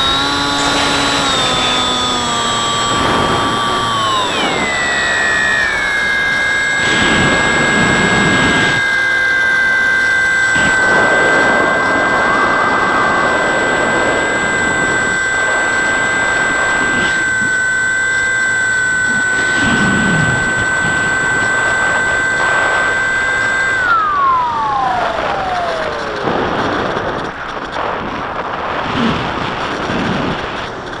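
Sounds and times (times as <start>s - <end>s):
electric motor propeller whine: 0.0s - 31.0s.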